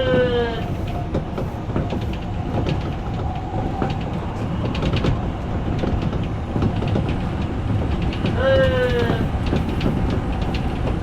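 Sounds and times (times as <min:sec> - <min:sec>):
train rumbling on rails: 0:00.0 - 0:11.0
wheel-on-rail clicks: 0:00.8 - 0:11.0.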